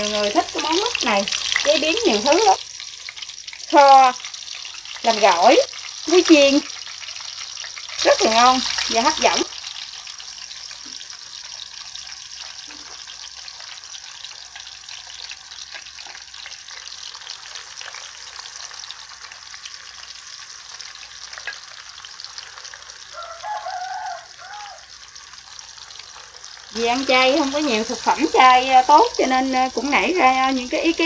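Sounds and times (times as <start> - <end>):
fruit sizzling in hot oil: 0.0 - 31.0.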